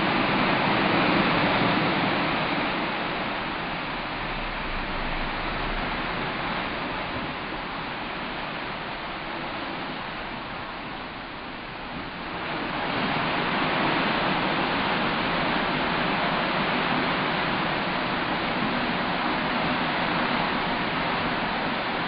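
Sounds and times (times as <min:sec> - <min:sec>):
sea water rushing along ship: 0:00.0 - 0:22.0
wind: 0:00.0 - 0:22.0.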